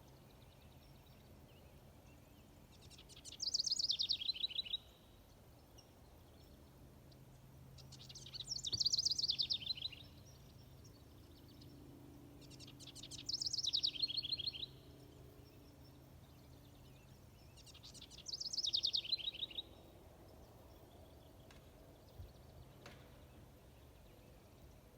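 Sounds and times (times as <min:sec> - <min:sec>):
warbler singing: 0:00.0 - 0:24.9.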